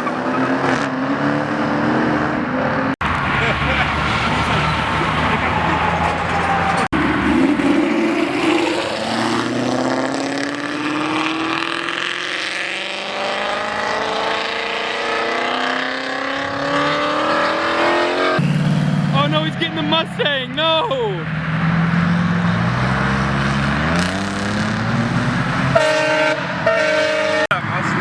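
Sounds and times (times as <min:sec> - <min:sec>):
car engine accelerating: 0:00.0 - 0:20.3, 0:21.2 - 0:26.7.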